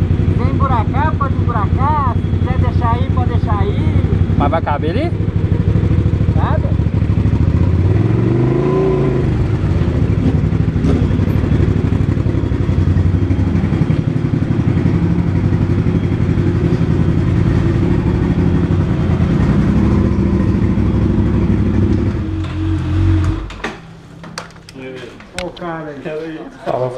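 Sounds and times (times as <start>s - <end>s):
motorcycle engine idling: 0.0s - 23.5s
motorcycle engine revving: 0.0s - 24.0s.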